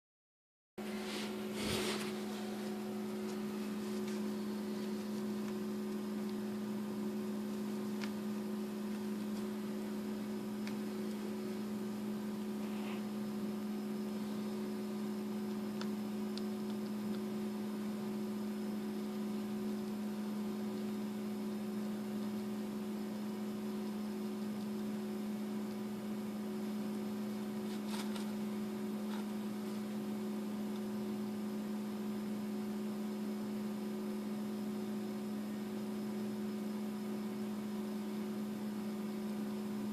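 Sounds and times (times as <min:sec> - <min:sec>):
low electrical hum: 0:00.8 - 0:39.9.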